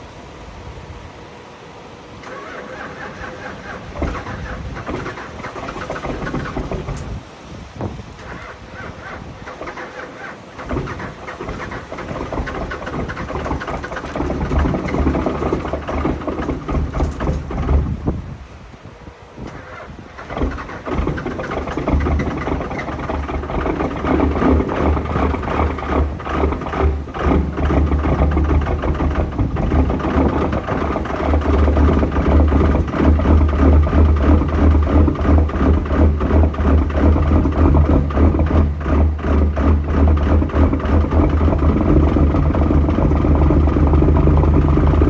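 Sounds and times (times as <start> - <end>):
diesel engine cold start: 2.1 - 45.0.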